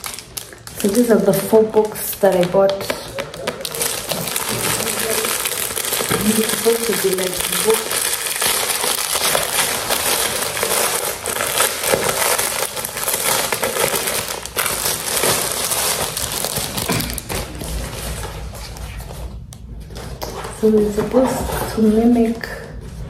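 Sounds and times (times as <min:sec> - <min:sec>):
packaging crinkling and rustling: 0:00.0 - 0:23.0.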